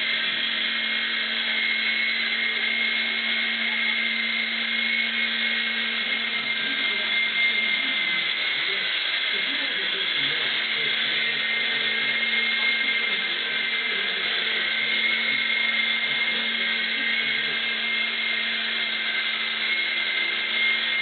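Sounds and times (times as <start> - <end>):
rc helicopter rotors whining: 0.0 - 21.0.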